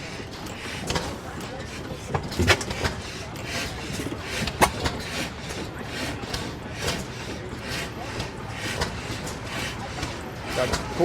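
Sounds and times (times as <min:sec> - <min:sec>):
stationary gas engine running slowly: 0:00.0 - 0:11.0.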